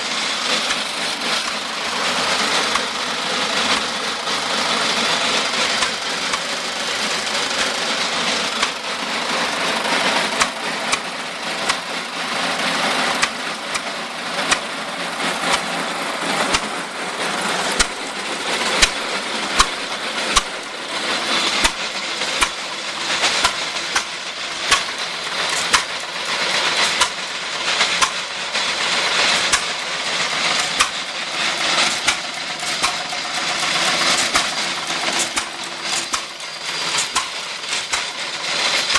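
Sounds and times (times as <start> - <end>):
engine pops: 0.0 - 38.9
feed grinder rush and clatter: 0.0 - 38.9.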